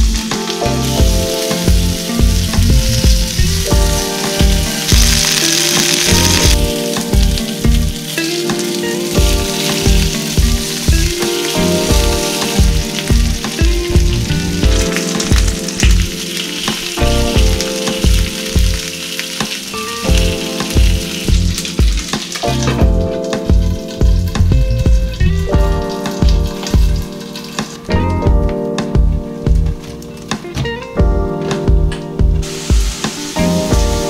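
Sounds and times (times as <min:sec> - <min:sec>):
vegetables sizzling in oil: 0:00.0 - 0:28.0, 0:32.4 - 0:34.0
background music with beat: 0:00.0 - 0:34.0.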